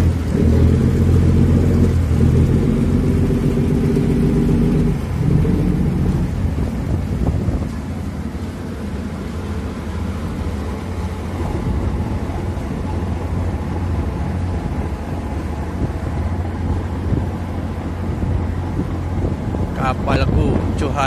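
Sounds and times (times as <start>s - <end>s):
ship engine droning: 0.0s - 21.0s.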